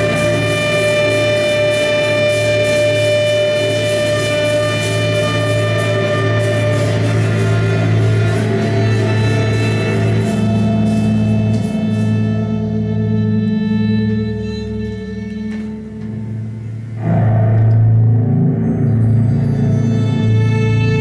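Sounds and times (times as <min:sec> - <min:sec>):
steady low drone: 0:00.0 - 0:21.0
trumpet holding sustained notes: 0:00.0 - 0:21.0
violins holding sustained notes: 0:00.0 - 0:21.0.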